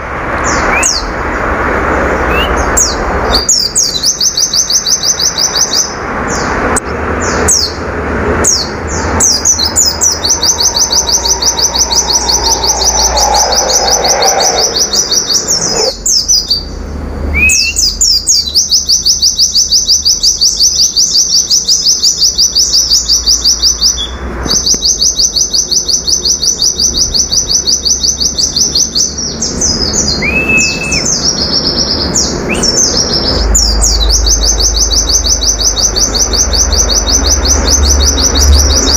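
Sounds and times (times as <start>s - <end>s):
caged bird singing rapid high notes: 0.4s - 1.1s, 2.2s - 7.8s, 8.4s - 38.9s.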